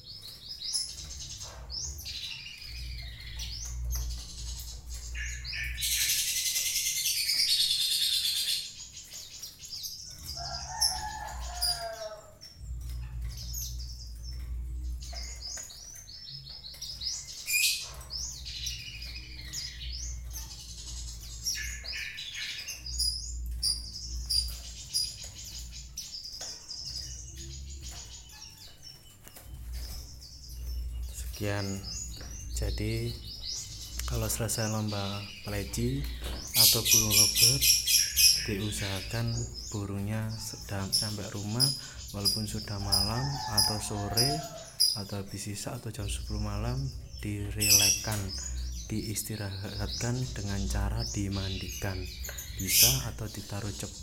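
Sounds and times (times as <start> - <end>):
high bird chirps: 0.0 - 54.0.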